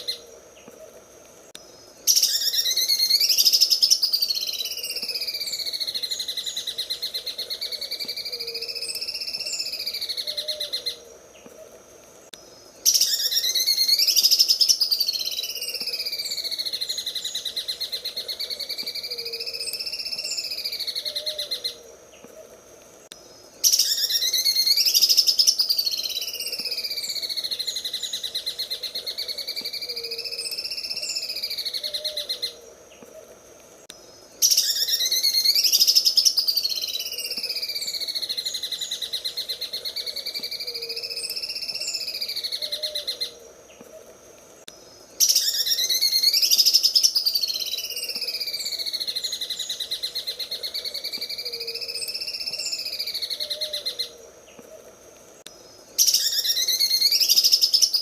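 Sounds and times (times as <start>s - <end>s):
bird singing rattling trill: 2.0s - 11.0s, 12.8s - 21.8s, 23.6s - 32.6s, 34.4s - 43.3s, 45.2s - 54.1s, 56.0s - 58.0s.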